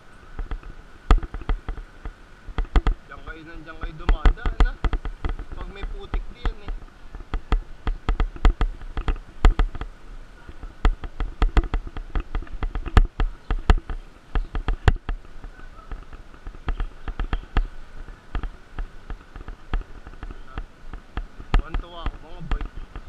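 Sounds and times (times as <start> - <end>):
bike rattling over bumps: 0.0 - 23.0.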